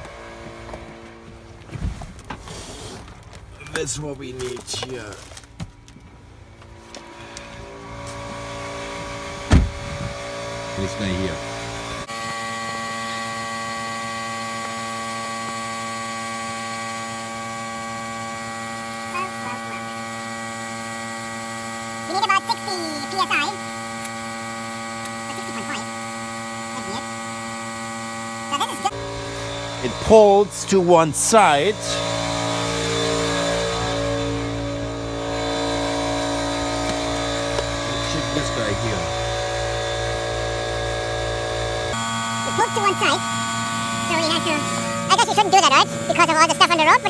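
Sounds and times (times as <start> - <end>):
air compressor humming: 0.0 - 47.0.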